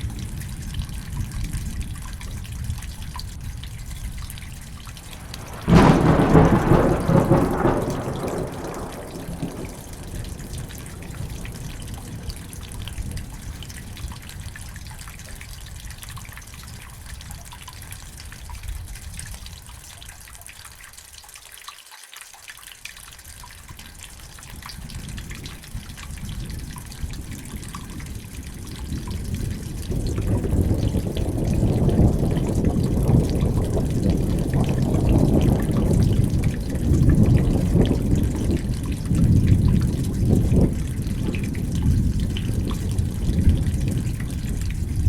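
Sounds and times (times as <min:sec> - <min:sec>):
low thunder rumble: 0:00.0 - 0:19.7, 0:24.2 - 0:45.0
dripping water: 0:00.0 - 0:45.0
steady rain: 0:00.0 - 0:45.0.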